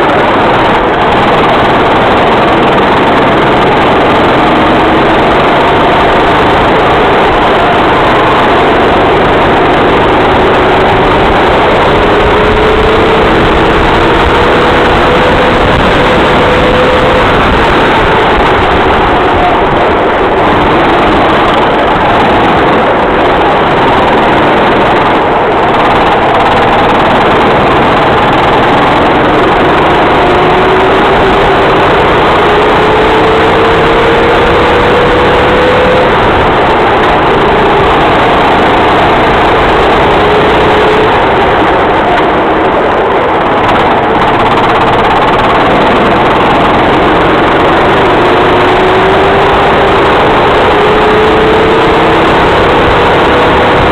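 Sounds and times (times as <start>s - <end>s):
kart engine accelerating: 0.0s - 53.9s.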